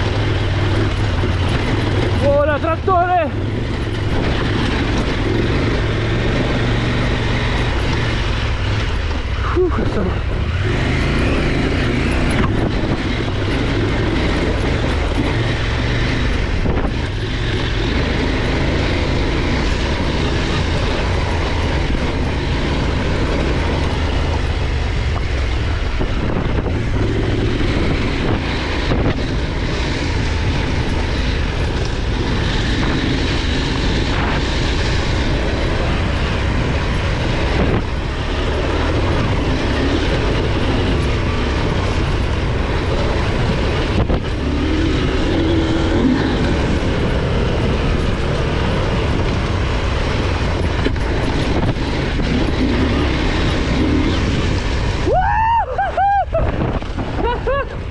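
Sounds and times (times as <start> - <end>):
motorcycle engine running: 0.0 - 55.2.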